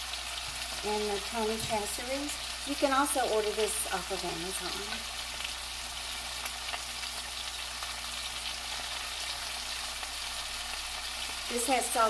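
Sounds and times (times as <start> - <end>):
sausage and cabbage sizzling: 0.0 - 12.0.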